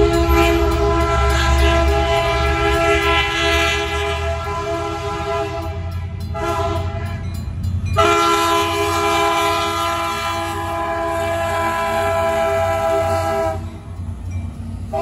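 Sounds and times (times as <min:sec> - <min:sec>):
locomotive horn blasts: 0:00.0 - 0:07.3, 0:08.0 - 0:13.9
low rumble of a train: 0:00.0 - 0:15.0.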